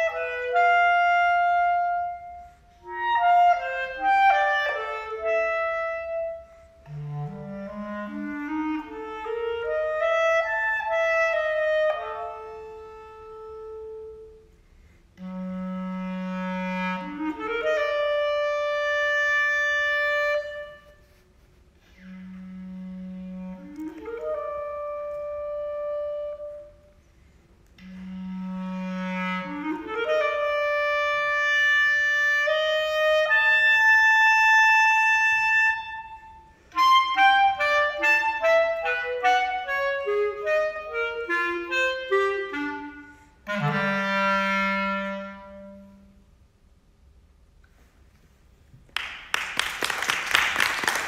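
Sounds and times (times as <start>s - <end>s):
solo clarinet playing: 0.0s - 46.5s.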